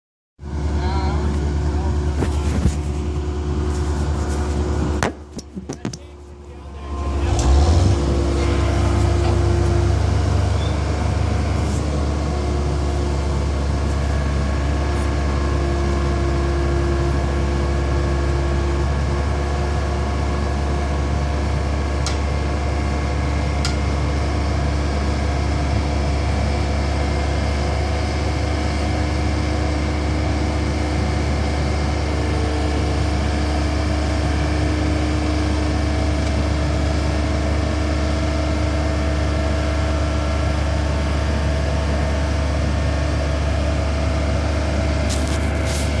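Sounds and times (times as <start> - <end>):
loader engine droning: 0.4 - 46.0.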